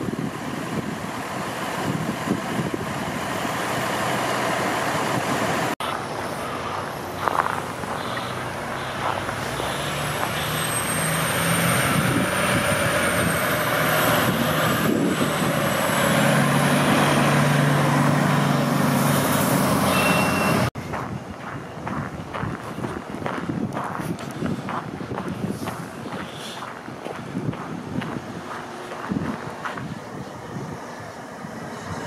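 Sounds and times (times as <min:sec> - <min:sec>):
truck diesel engine driving: 0:00.0 - 0:32.0.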